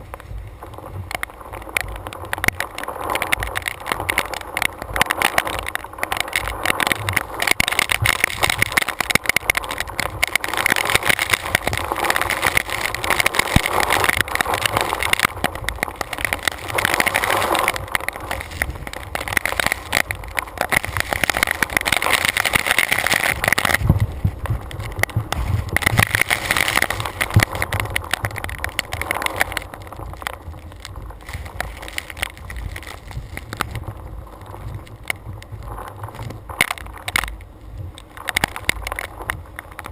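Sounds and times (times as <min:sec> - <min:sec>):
rain spattering on camera: 0:00.0 - 0:39.9
storm wind gusting: 0:00.0 - 0:39.9.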